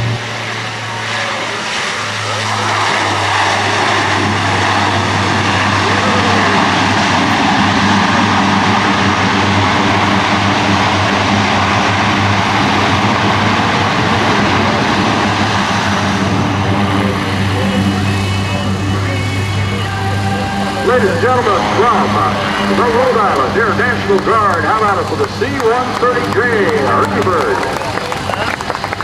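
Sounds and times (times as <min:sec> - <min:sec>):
low propeller hum: 0:00.0 - 0:29.0
turboprop aircraft engines roaring: 0:00.0 - 0:29.0.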